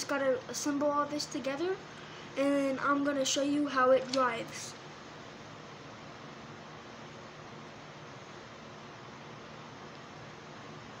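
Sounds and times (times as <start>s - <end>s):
faint recording hiss: 0.0s - 11.0s.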